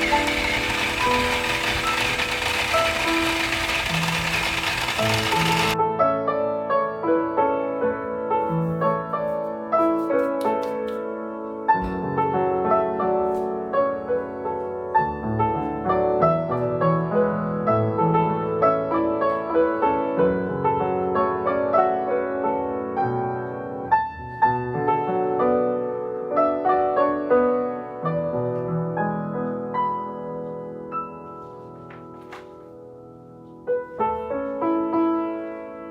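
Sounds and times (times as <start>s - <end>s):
gentle solo piano music: 5.7s - 35.9s.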